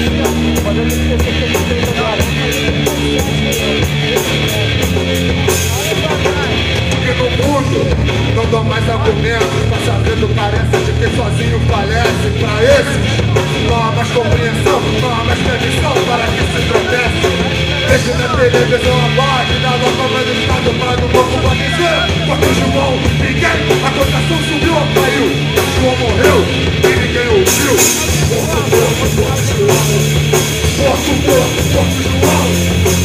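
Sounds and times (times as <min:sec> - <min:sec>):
bass guitar: 0:00.0 - 0:33.0
distorted electric guitar: 0:00.0 - 0:33.0
drum kit beat: 0:00.0 - 0:33.0
singer shouting: 0:00.0 - 0:33.0.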